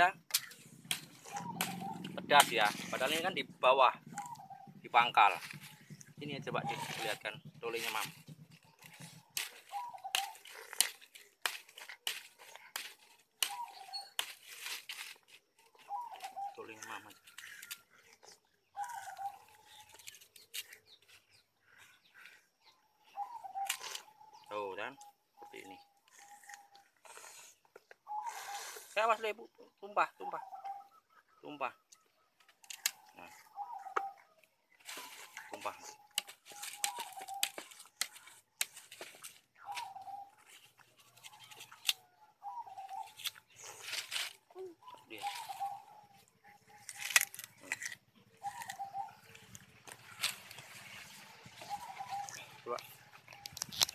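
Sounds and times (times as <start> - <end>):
sugarcane crunching and tearing: 0.0 - 22.3, 23.1 - 24.7, 25.4 - 28.8, 32.0 - 53.9.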